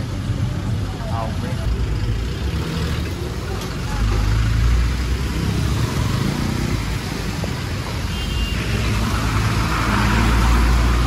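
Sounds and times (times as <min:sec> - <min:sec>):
wet road noise: 0:00.0 - 0:11.0.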